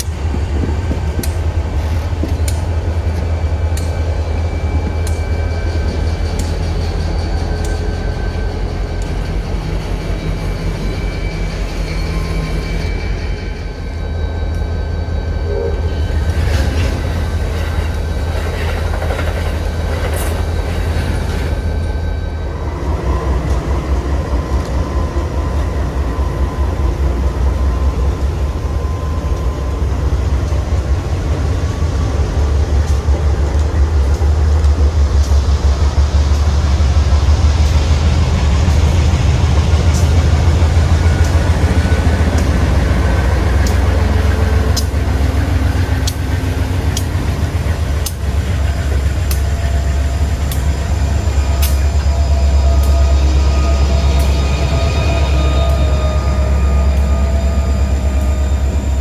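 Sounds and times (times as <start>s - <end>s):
locomotive engines rumbling: 0.0s - 59.0s.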